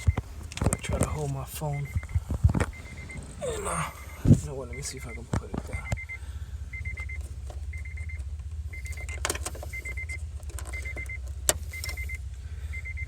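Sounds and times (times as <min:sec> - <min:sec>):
car warning chime beeps: 0:00.0 - 0:13.0
steady low hum: 0:00.0 - 0:13.0.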